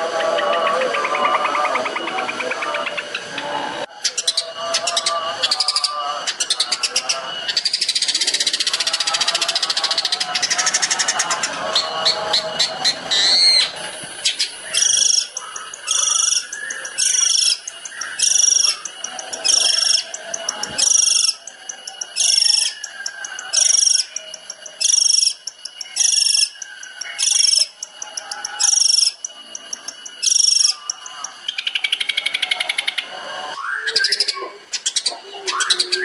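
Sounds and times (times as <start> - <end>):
faint ticking bird notes: 0.0 - 33.1
bird singing rapid high notes: 0.4 - 36.0.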